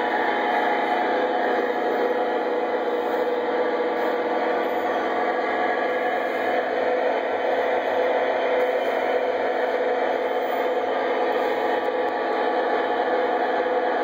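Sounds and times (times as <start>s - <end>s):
model train rolling on track: 0.0s - 14.0s.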